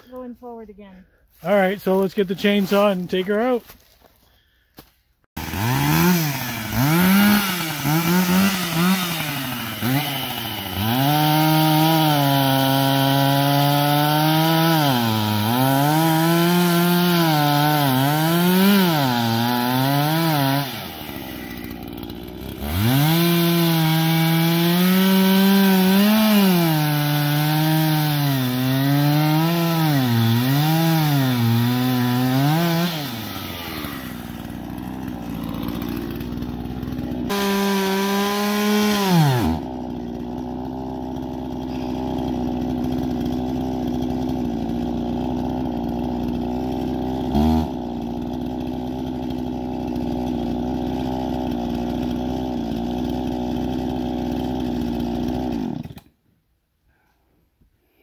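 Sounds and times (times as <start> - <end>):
chainsaw cutting wood: 5.4 - 56.2.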